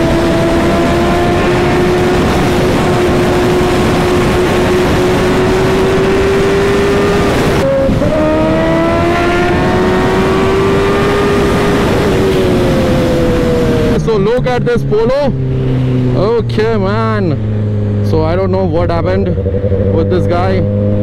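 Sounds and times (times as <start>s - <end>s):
wind rush on microphone: 0.0s - 18.0s
motorcycle engine at high speed: 0.0s - 21.0s.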